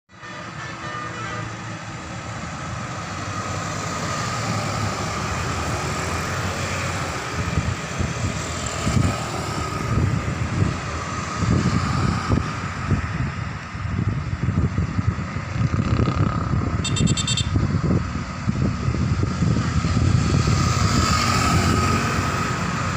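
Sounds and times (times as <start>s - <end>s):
buses driving past: 0.1s - 22.9s.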